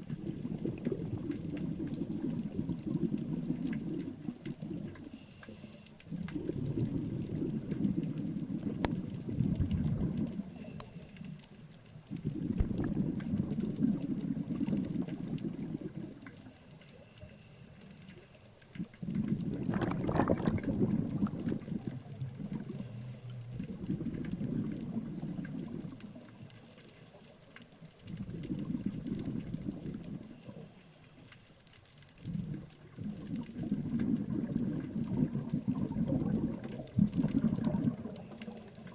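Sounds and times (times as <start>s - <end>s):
scuba regulator exhaust bubbles: 0.0s - 17.4s, 18.0s - 31.3s, 32.2s - 38.9s.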